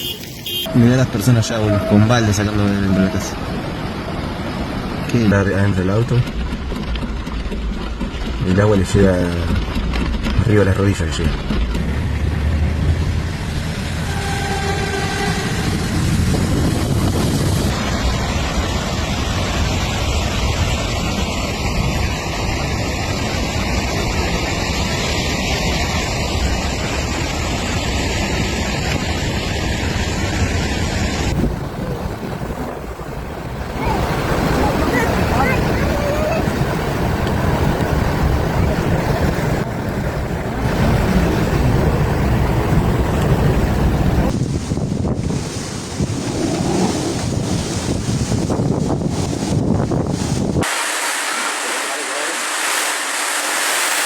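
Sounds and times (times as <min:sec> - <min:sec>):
floodwater rushing: 0:00.0 - 0:09.6, 0:11.0 - 0:54.0
wind: 0:00.0 - 0:54.0.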